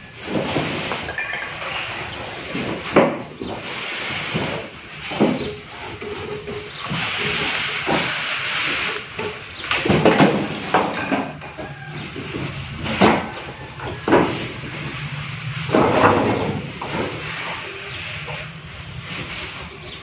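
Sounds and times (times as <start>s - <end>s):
cardboard carton scraping and rustling: 0.0s - 20.0s
sharp knocks and bumps: 0.2s - 20.0s.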